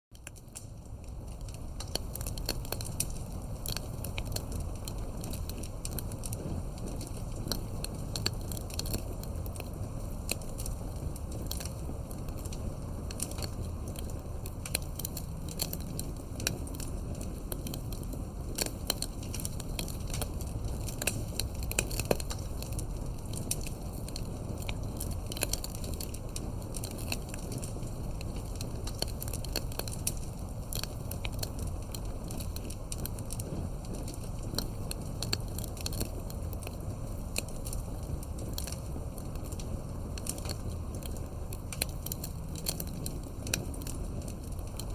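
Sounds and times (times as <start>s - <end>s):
burning wood crackling and popping: 0.1s - 44.9s
rumble of flames: 0.1s - 44.9s.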